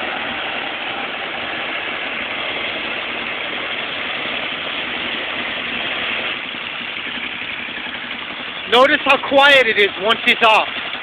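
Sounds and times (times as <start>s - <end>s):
construction compactor running: 0.0s - 11.0s.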